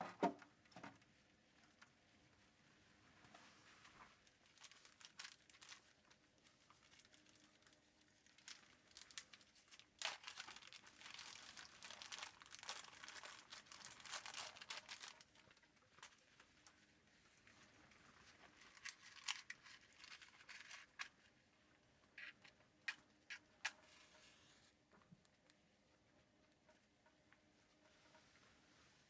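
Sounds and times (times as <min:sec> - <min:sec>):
faint crinkling and rustling: 0:00.0 - 0:29.0.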